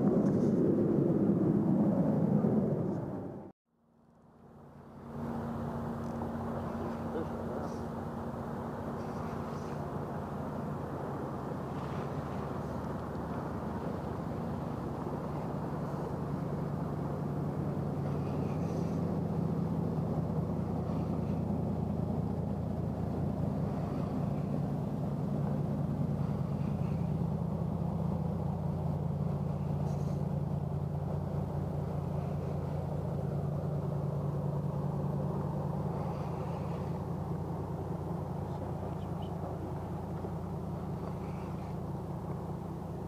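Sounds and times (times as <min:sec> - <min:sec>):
low engine drone: 0:00.0 - 0:43.0.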